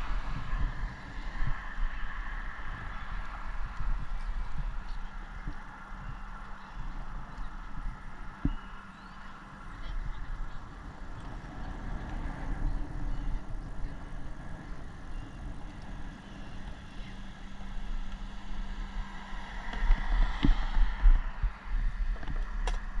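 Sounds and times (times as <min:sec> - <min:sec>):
traffic rumble: 0:00.0 - 0:23.0
wind buffeting microphone: 0:00.0 - 0:23.0.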